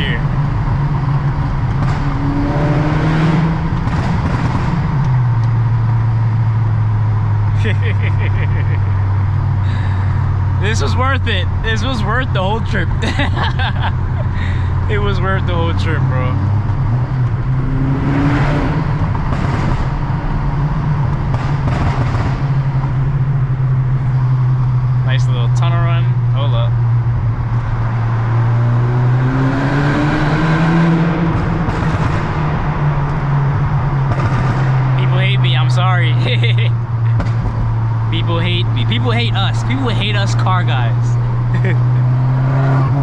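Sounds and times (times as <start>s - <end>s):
car engine driving in tunnel: 0.0s - 43.0s.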